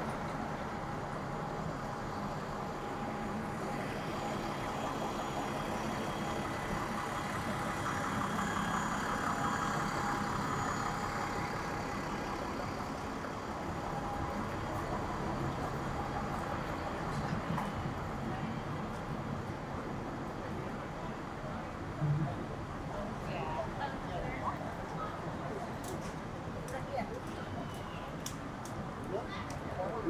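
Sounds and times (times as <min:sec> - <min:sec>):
traffic din: 0:00.0 - 0:30.0.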